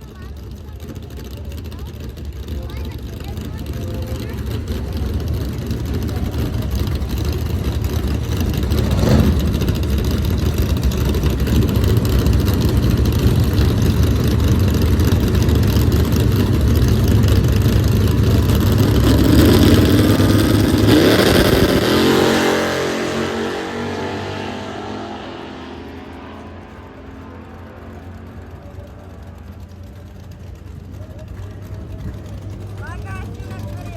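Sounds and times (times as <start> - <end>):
race car engines at speed: 0.0 - 33.9.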